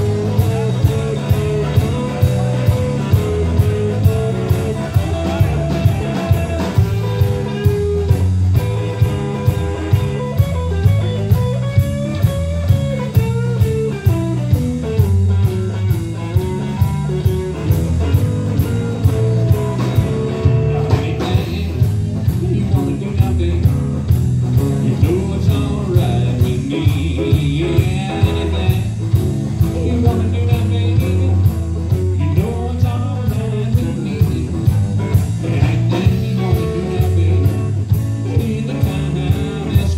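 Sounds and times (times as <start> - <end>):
bass guitar: 0.0 - 39.9
guitar lead with bending notes: 0.0 - 39.9
steady drum beat: 0.0 - 39.9.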